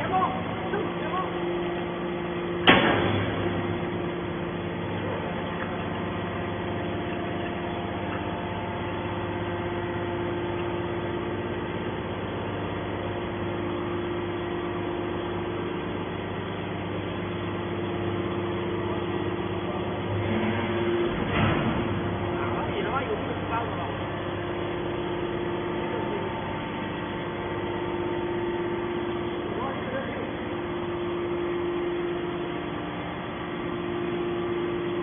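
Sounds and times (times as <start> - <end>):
baler motor and pump humming: 0.0 - 35.0.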